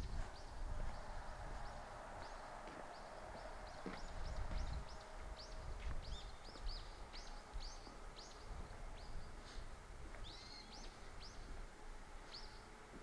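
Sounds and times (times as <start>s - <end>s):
low rumble: 0.0s - 11.9s
small birds chirping: 0.0s - 12.8s.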